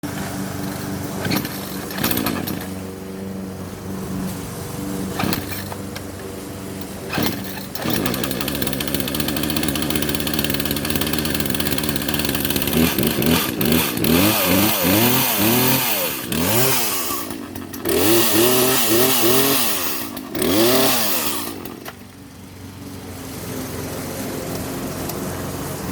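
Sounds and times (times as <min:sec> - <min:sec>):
chainsaw engine idling and revving: 0:00.0 - 0:25.9.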